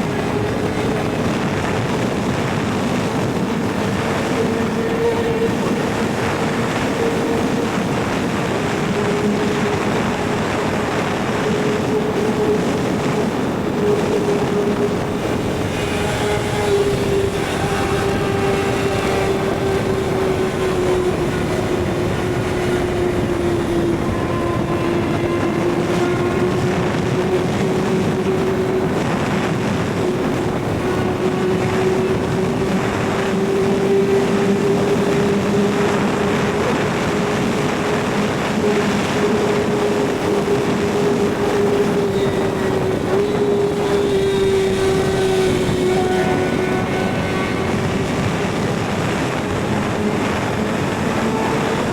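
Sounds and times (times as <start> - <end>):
rushing noise: 0.0 - 51.9.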